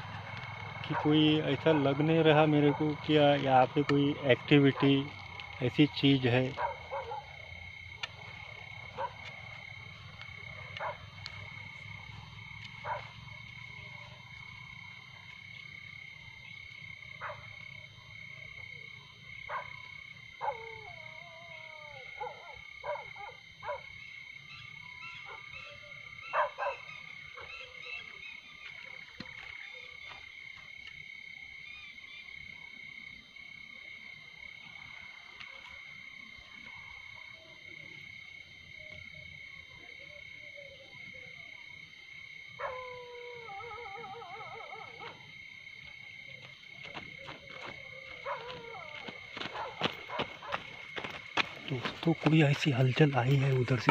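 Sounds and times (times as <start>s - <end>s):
distant dogs barking: 0.0s - 30.6s, 33.8s - 53.9s
insects trilling: 0.0s - 53.9s.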